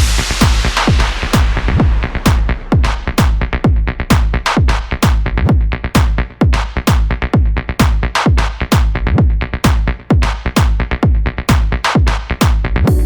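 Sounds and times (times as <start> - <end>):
electronic dance music: 0.0 - 13.0.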